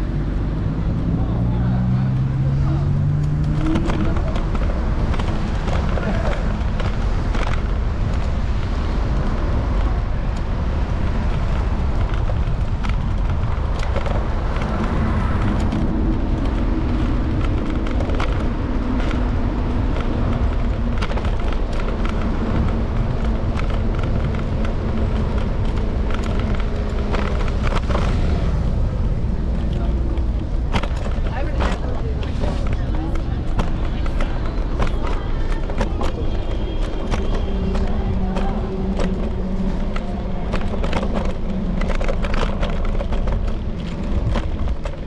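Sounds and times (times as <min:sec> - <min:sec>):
road rumble: 0:00.0 - 0:45.0
wind: 0:00.0 - 0:45.0
small clicks and rattles: 0:03.0 - 0:45.0.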